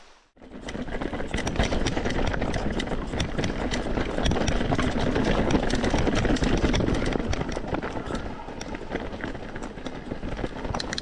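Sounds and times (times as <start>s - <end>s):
bike tyres rumbling on trail: 0.4s - 11.0s
bike rattling clicks: 0.5s - 11.0s.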